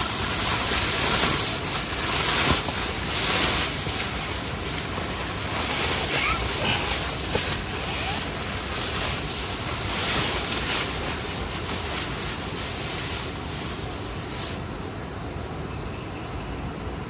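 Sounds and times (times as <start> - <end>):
heavy rain on tent fabric: 0.0 - 14.6.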